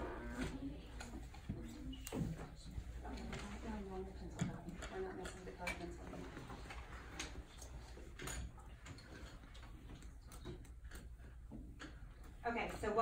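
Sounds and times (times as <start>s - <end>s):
pencils ticking and tapping: 0.3s - 13.0s.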